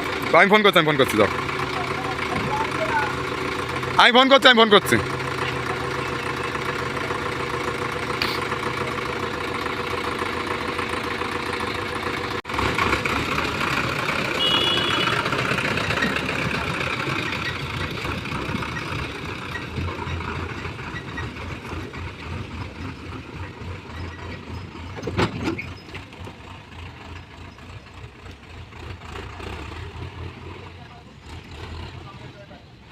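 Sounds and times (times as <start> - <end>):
heavy diesel engines running: 0.0 - 32.9.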